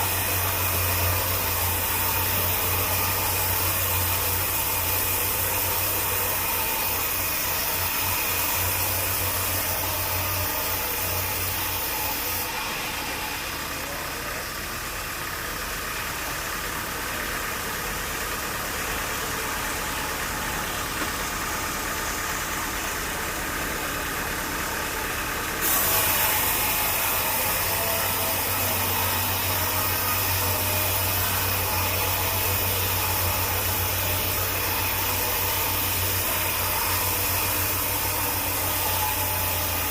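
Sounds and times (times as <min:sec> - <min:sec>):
sawmill machinery engine running: 0:00.0 - 0:39.9.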